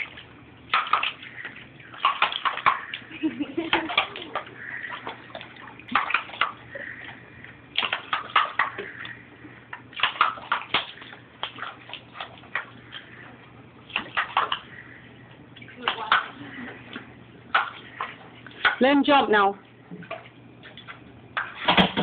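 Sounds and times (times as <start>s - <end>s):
water spraying and splashing: 0.0s - 19.2s.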